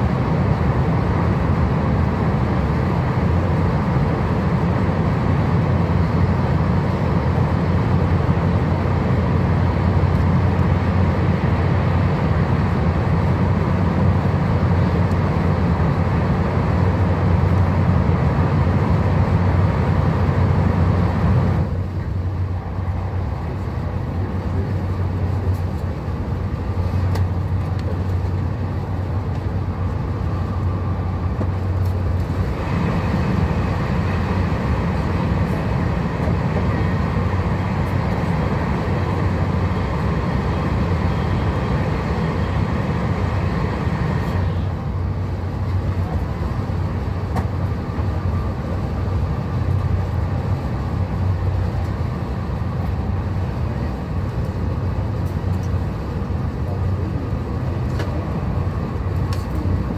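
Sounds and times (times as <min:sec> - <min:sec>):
train cabin rumble: 0:00.0 - 0:59.9.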